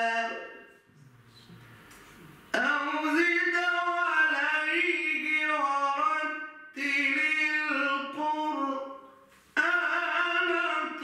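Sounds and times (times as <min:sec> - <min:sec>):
man reciting melodically: 0:00.0 - 0:01.6, 0:02.5 - 0:11.0.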